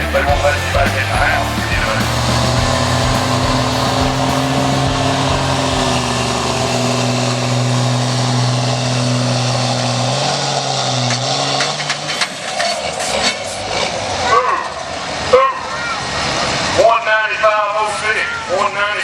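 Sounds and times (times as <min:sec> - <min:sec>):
engine at high revs: 0:00.0 - 0:17.4.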